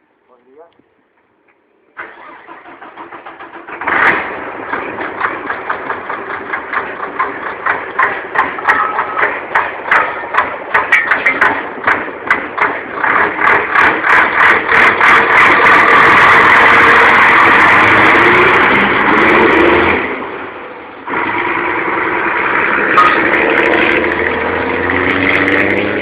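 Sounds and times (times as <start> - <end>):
diesel engine starting and revving: 2.0 - 26.0.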